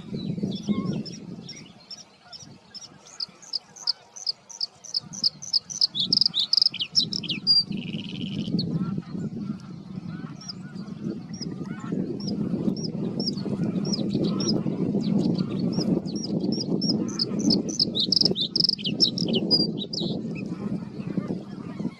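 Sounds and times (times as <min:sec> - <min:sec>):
bird singing with buzzy trill: 0:00.0 - 0:21.9
low chattering chorus: 0:00.0 - 0:21.9.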